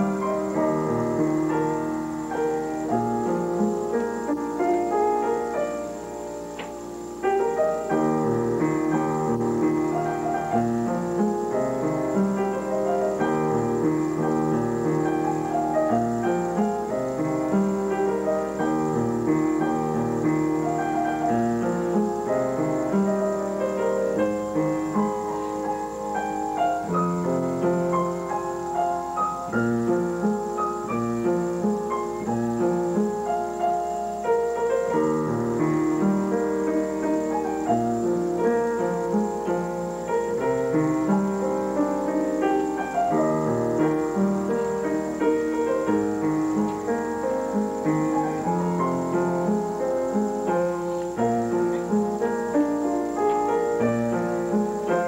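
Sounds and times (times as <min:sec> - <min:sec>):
solo piano piece: 0:00.0 - 0:55.0.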